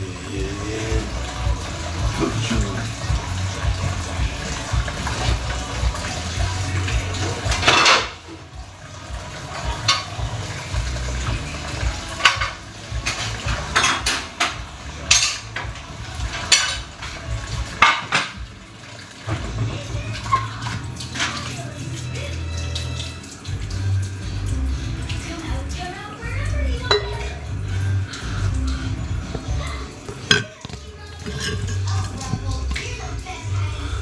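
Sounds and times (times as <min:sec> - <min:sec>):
running tap water: 0:00.0 - 0:34.0
dishes and cutlery clattering: 0:00.8 - 0:25.7, 0:26.7 - 0:33.4.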